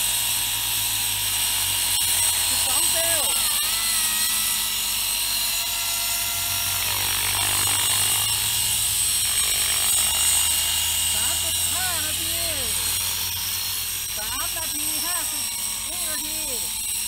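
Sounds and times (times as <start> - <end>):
model helicopter rotor humming: 0.0 - 17.0.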